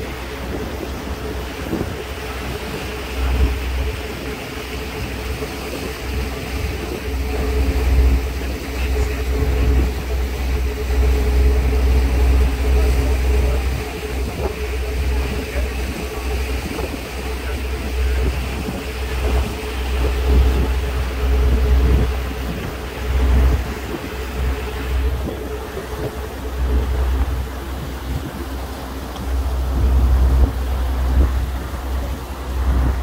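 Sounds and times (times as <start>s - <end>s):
boat engine rumbling: 0.0s - 33.0s
wind on the microphone: 0.0s - 33.0s.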